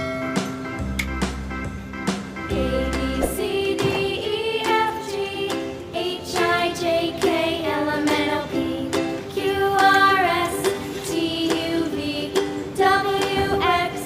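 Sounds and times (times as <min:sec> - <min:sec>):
person singing children's song: 0:02.5 - 0:14.0.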